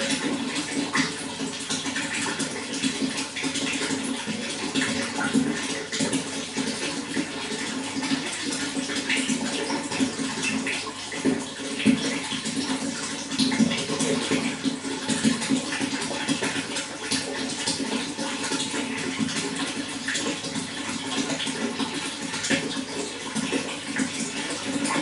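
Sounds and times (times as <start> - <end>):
running water splashing: 0.0 - 25.0.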